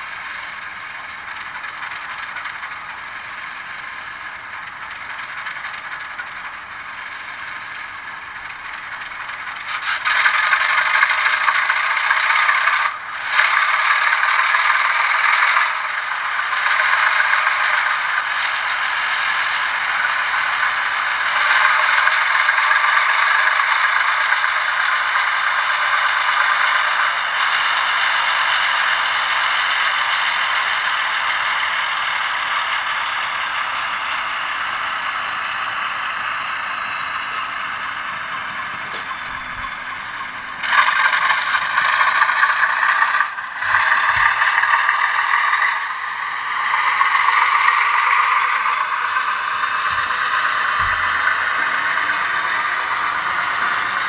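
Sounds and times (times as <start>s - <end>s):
diesel locomotive engine through small speaker: 0.0s - 54.0s.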